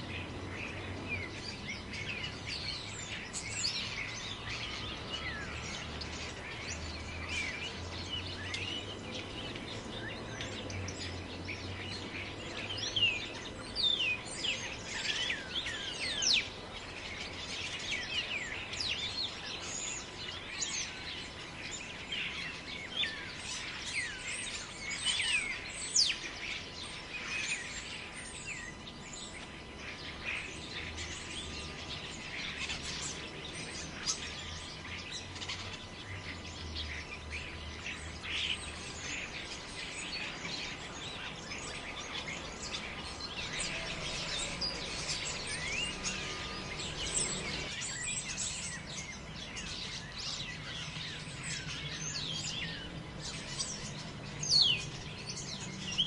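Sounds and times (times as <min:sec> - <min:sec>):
birds chirping in chorus: 0:00.0 - 0:56.0.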